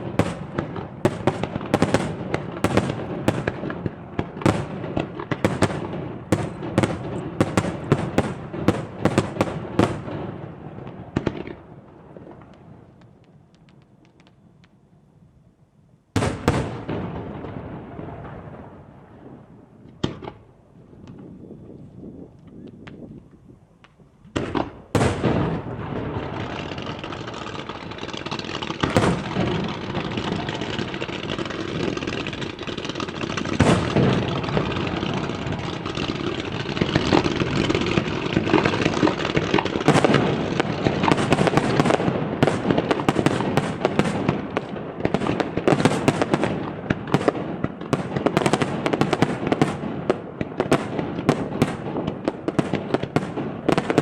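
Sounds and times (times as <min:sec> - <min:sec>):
firework shells bursting with bangs: 0:00.0 - 0:14.8, 0:16.2 - 0:18.8, 0:23.8 - 0:54.0
fireworks crackling: 0:00.0 - 0:14.8, 0:16.2 - 0:23.1, 0:23.8 - 0:54.0.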